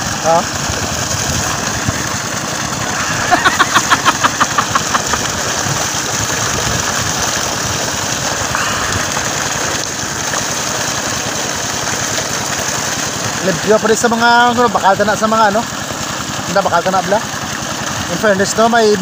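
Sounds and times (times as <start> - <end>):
pump engine running: 0.0 - 19.0
water gushing from pipe: 0.0 - 19.0.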